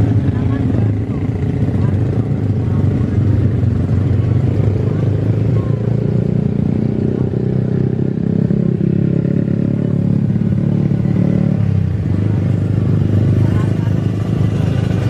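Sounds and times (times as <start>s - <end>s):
loud engine rumble: 0.0s - 15.0s.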